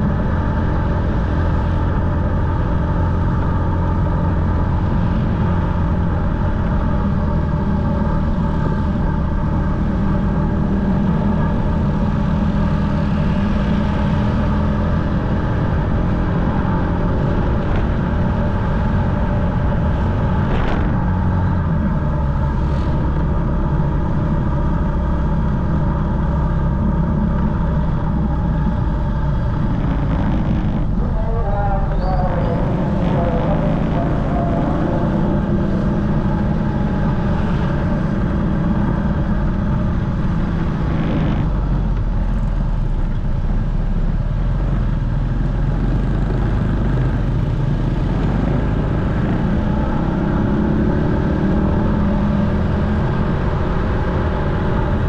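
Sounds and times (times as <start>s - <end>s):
motorcycle engine cruising: 0.0s - 55.0s
wind rumble on microphone: 0.0s - 55.0s.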